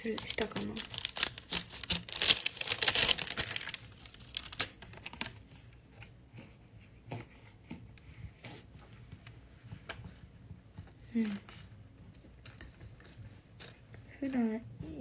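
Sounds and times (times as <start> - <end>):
crinkling handling noise: 0.0 - 14.5.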